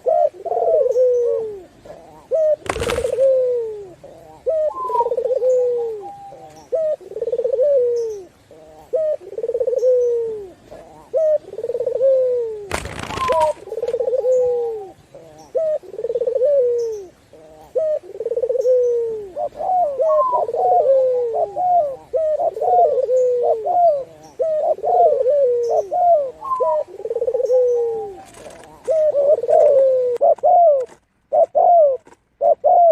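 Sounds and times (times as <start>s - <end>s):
doves cooing: 0.0s - 32.9s.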